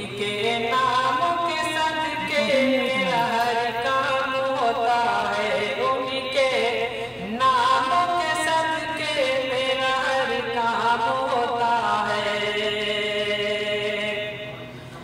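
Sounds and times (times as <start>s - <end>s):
man singing into a microphone: 0.0s - 14.6s.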